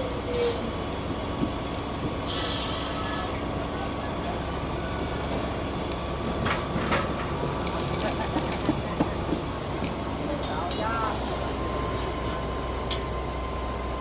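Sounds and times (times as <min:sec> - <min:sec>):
heavy machinery engine rumbling: 0:00.0 - 0:14.0.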